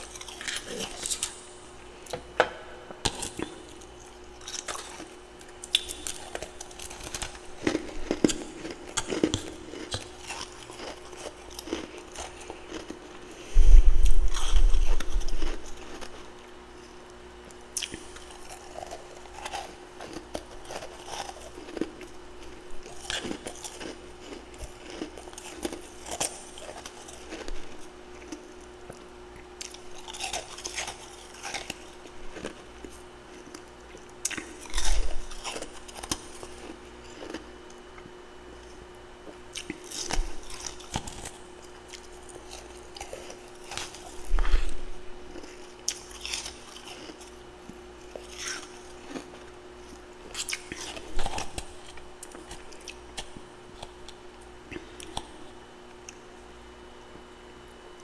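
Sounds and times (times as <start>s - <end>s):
person chewing crunchy frost: 0.0s - 2.3s, 3.0s - 56.4s
faint steady hum: 0.0s - 58.0s.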